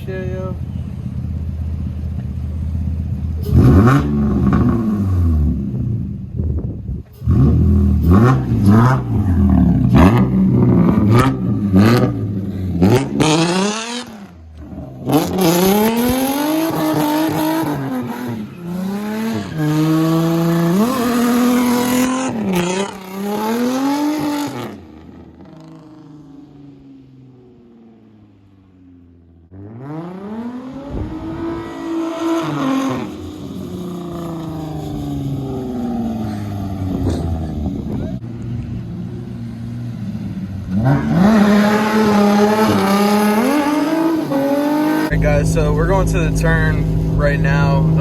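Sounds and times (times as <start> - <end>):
car engine revving: 0.0 - 6.5, 7.1 - 48.0.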